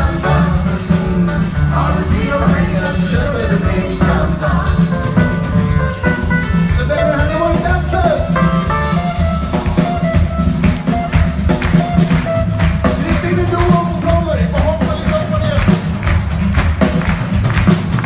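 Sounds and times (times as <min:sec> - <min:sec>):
live band playing samba: 0:00.0 - 0:18.0.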